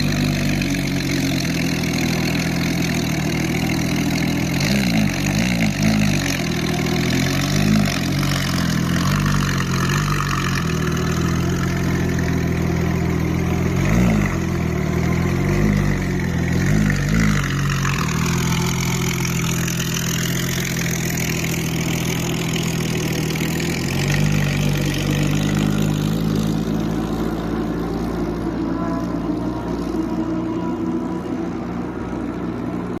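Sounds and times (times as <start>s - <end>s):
engine throttle blips: 0.0s - 33.0s
loud car engine idling: 0.0s - 33.0s.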